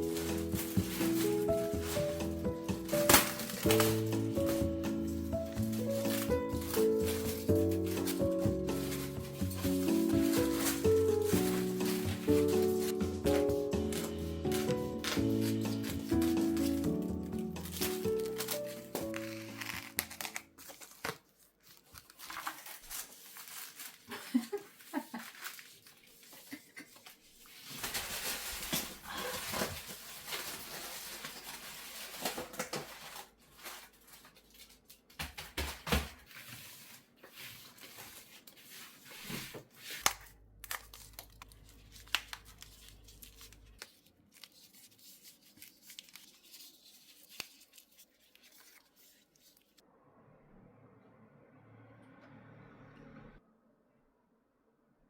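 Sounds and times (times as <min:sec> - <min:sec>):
thin sheet rustling and tearing: 0:00.0 - 0:49.8.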